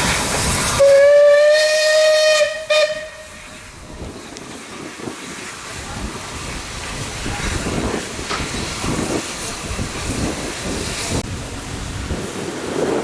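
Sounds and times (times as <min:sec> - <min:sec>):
steam hissing: 0:00.0 - 0:13.0
steam locomotive low rumble: 0:00.0 - 0:13.0.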